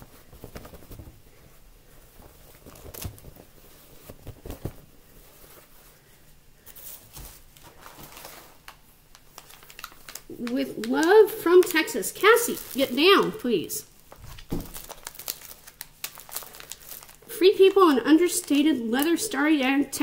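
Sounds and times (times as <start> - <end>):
cloth and plastic rustling: 0.0 - 20.0.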